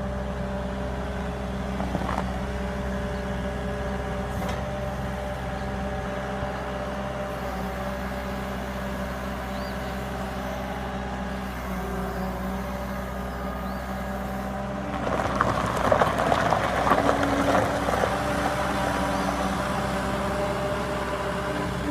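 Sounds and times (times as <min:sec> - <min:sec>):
loader engine running: 0:00.0 - 0:21.9.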